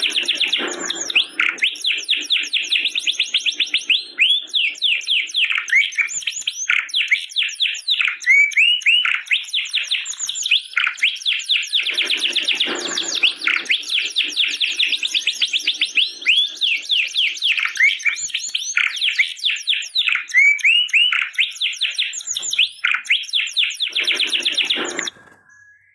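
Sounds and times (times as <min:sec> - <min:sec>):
canary singing trills: 0:00.0 - 0:25.9.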